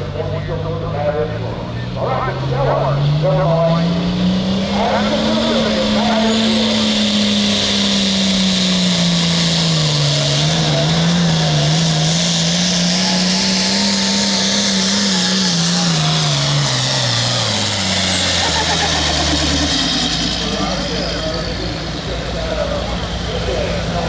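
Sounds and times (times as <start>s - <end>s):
diesel tractor engine under load: 0.0s - 24.0s.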